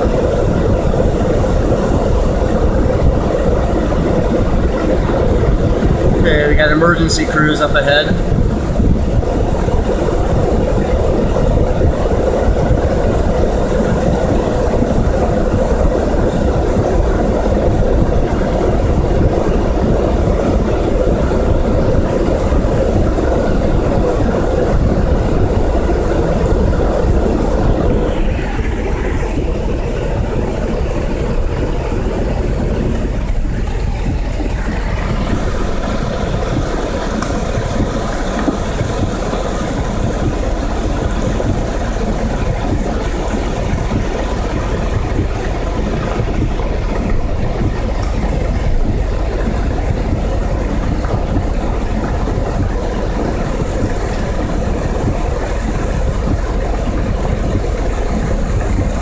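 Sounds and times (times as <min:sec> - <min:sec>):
muddy water and rocks rushing: 0:00.0 - 0:59.0.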